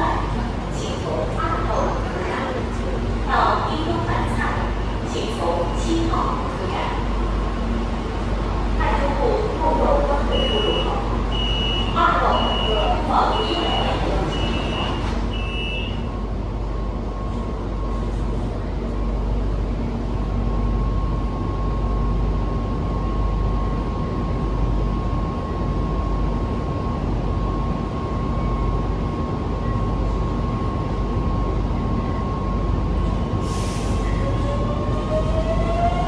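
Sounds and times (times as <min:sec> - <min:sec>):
constant train whine: 0:00.0 - 0:36.0
train wheels rumbling on rail: 0:00.0 - 0:36.0.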